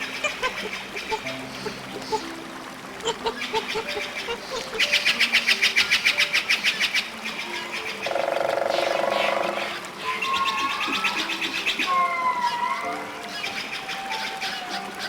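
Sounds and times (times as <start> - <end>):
rapid rattling bird call: 0.0 - 2.4, 3.1 - 15.0.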